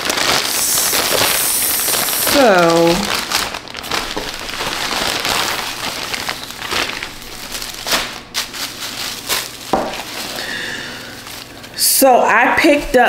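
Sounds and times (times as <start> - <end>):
package wrapping crinkling: 0.0 - 11.8.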